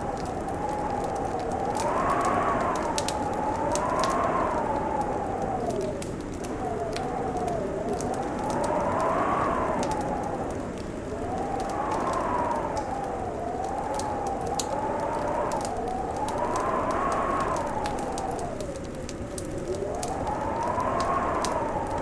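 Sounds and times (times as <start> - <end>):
fireplace fire crackling: 0.0 - 22.0
wind howling: 0.0 - 22.0.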